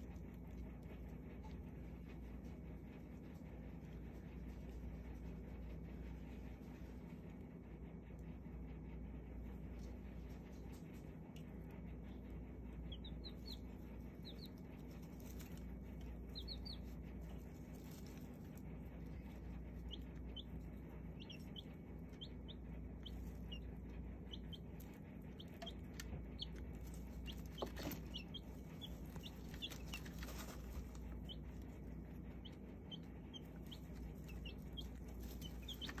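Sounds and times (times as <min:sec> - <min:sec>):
baby chicks peeping: 0:00.0 - 0:36.0.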